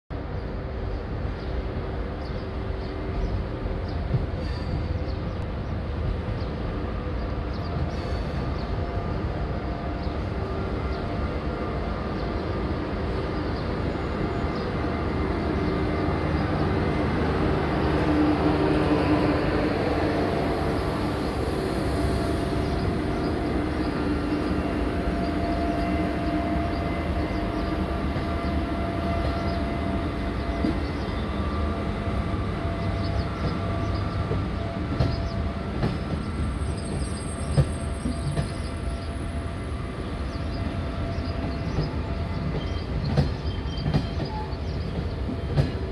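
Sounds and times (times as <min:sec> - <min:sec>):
train rumbling past: 0:00.1 - 0:45.9.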